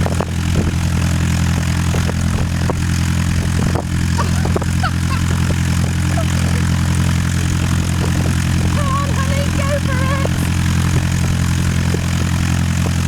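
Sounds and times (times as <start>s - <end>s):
propeller aircraft engine running: 0.0s - 13.0s.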